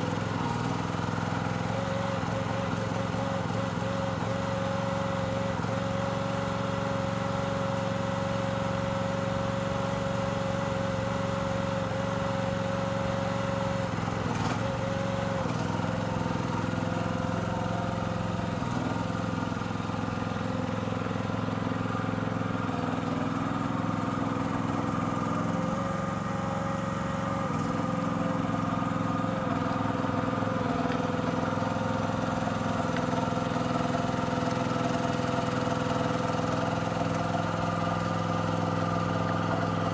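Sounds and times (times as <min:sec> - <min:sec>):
mini dumper engine running: 0:00.0 - 0:39.9.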